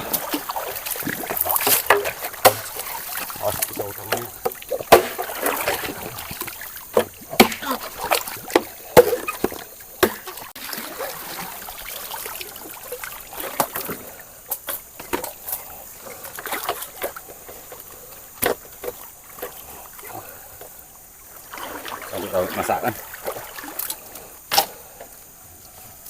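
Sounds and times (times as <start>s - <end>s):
river water splashing: 0.0s - 26.0s.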